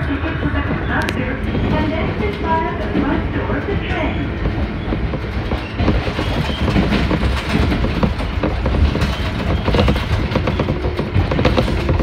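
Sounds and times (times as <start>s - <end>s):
train wheels rumbling on rail: 0.0s - 12.0s
wheels clacking on track: 0.0s - 12.0s.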